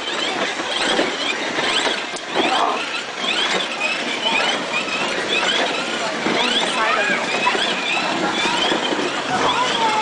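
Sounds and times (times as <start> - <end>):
high rising squeaks: 0.0 - 10.0
toy train rolling on hard floor: 0.0 - 10.0.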